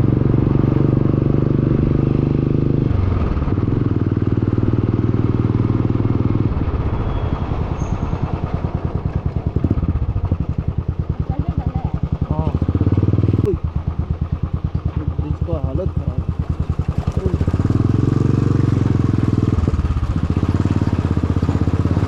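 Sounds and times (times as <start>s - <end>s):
loud motorcycle exhaust: 0.0s - 22.0s.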